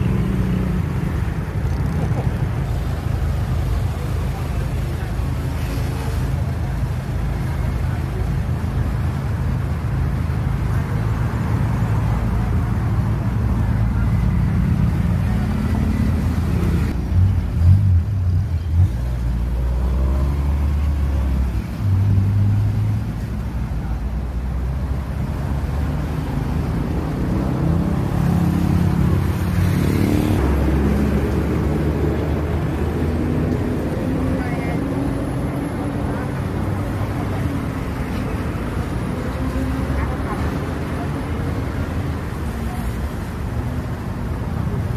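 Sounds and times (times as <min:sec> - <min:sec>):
road rumble: 0:00.0 - 0:44.9.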